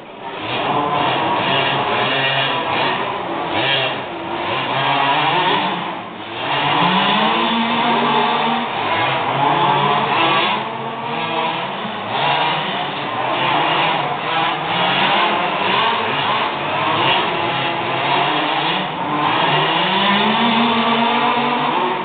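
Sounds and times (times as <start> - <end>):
small two-stroke engines revving: 0.0 - 22.0.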